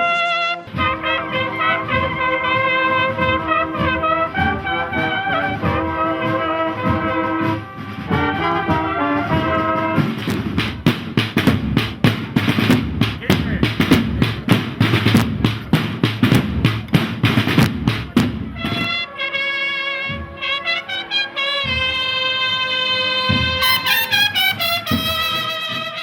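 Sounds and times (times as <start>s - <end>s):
cornets playing march melody: 0.0s - 26.0s
sharp snare drum strokes: 0.5s - 19.1s, 20.0s - 26.0s
drum strokes: 0.6s - 19.2s, 20.0s - 26.0s.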